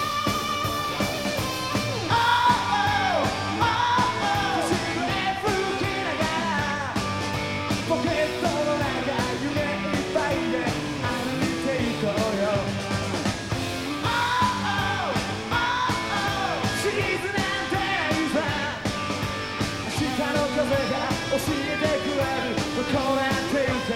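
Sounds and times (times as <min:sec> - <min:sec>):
drums: 0:00.0 - 0:23.9
electric guitars: 0:00.0 - 0:23.9
lead vocal: 0:01.9 - 0:23.9.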